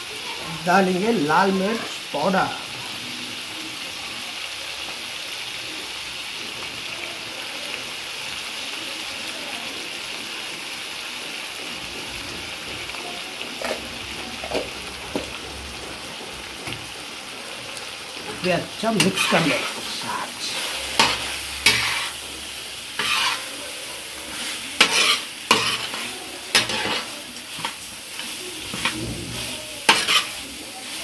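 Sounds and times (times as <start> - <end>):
meat sizzling in oil: 0.0 - 31.0.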